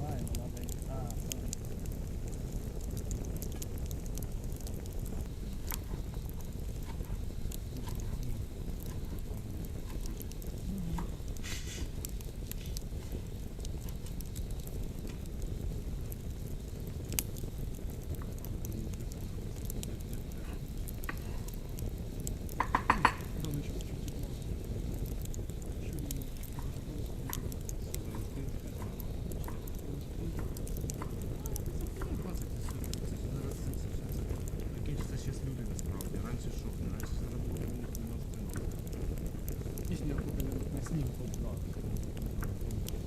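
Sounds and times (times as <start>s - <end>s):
campfire crackling and popping: 0.0s - 43.0s
fire hiss: 0.0s - 43.0s.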